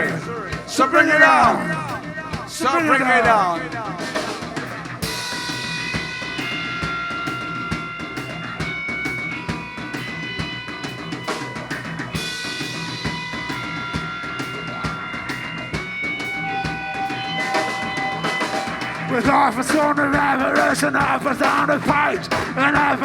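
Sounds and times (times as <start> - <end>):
drum kit driving beat: 0.0 - 23.0
rock band instrumental: 0.0 - 23.0.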